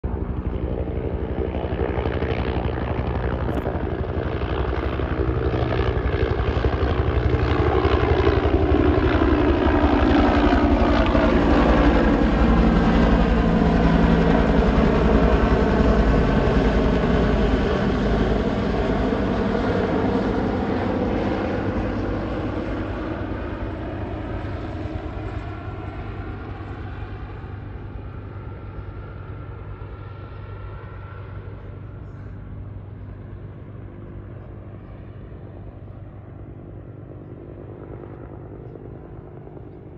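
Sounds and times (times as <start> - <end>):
helicopters flying past: 0.0 - 39.9.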